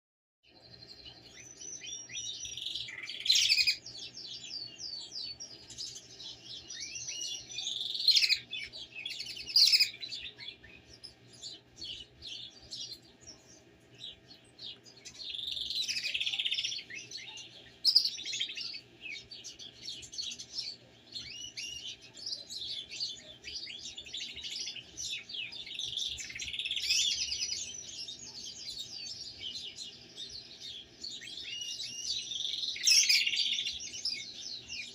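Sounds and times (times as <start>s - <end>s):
canaries chirping and warbling: 0.5s - 34.9s.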